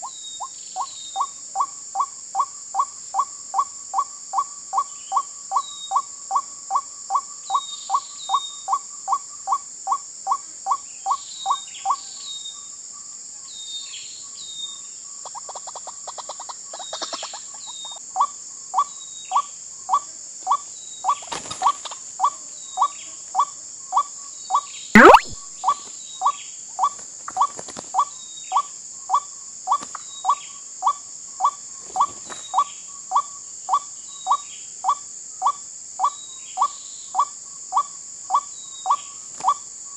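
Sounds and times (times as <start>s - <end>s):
high insect drone: 0.0s - 24.9s, 25.6s - 39.9s.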